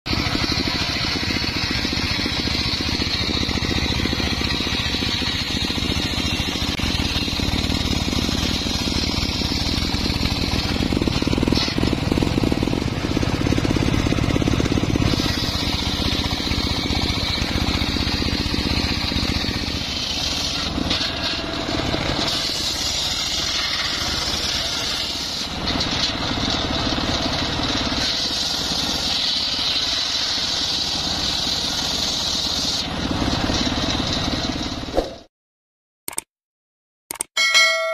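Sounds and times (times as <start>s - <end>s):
circular saw ripping logs: 0.1s - 34.9s.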